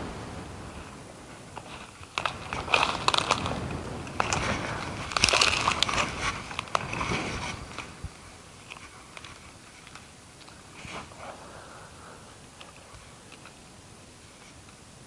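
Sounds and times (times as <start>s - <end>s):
close rustling and crackling: 0.0s - 15.0s.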